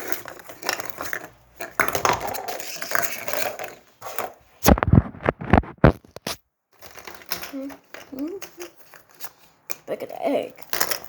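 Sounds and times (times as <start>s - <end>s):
rustling: 0.0s - 9.7s
plastic objects clattering: 0.0s - 9.9s, 10.6s - 11.0s.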